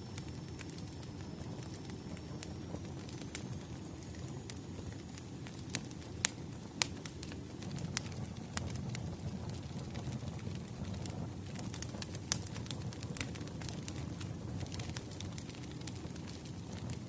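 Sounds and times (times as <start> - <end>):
burning logs rumbling: 0.0 - 17.0
fire popping and snapping: 0.0 - 17.0.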